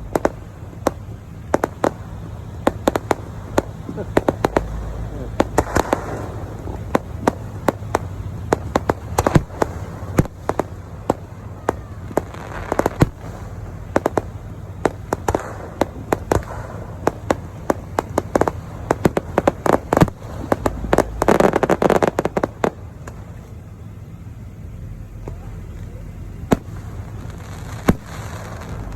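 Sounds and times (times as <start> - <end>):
fireworks bangs and pops: 0.0 - 28.9.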